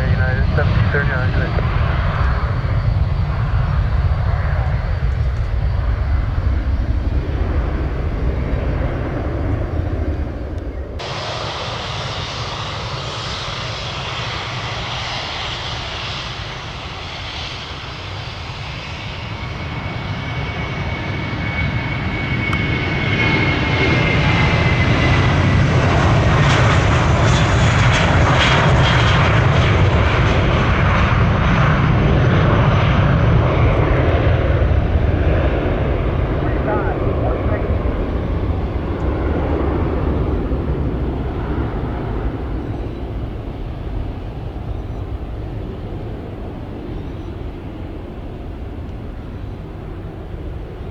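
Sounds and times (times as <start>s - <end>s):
jet airliner engines whining: 0.0s - 50.9s.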